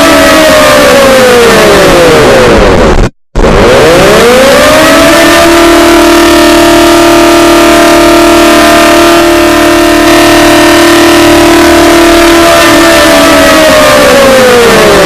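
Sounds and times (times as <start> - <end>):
civil defense siren: 0.0 - 15.0.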